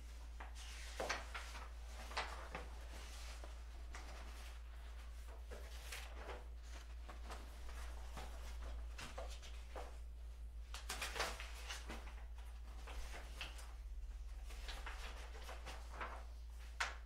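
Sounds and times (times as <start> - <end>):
low electrical hum: 0.0 - 17.0
paper rustling: 0.0 - 17.0.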